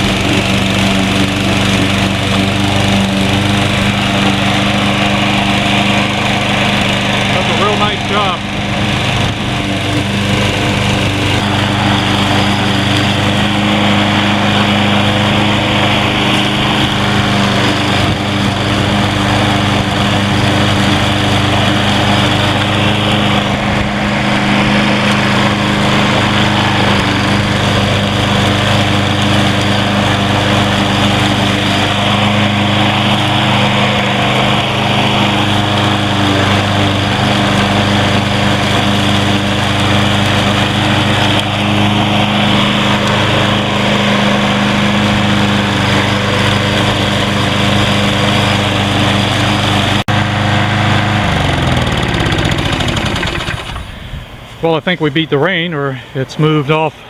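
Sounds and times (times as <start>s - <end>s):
lawn mower running: 0.0s - 57.0s.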